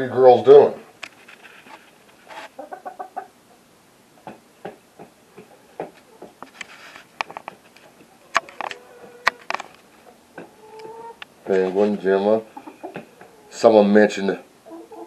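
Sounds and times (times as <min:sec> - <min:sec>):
hens clucking: 0:01.8 - 0:15.0.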